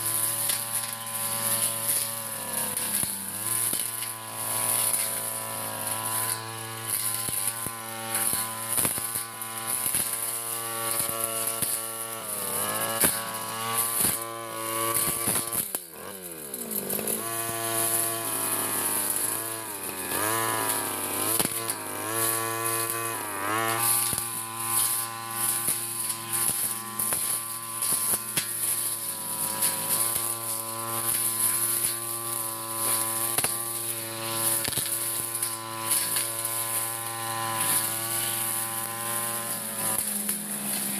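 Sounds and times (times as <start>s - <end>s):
brush cutter engine revving: 0.0s - 40.9s
blade ticking on stems: 0.1s - 12.2s, 12.8s - 40.9s.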